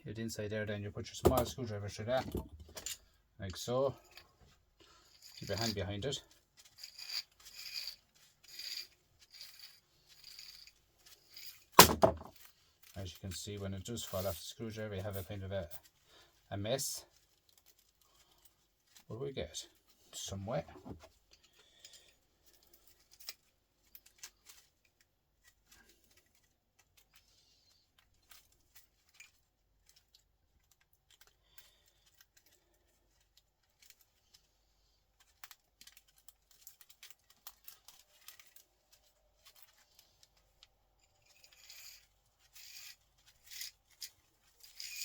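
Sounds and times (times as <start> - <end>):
small hand tools clicking and scraping: 1.2 - 16.0, 16.6 - 45.0.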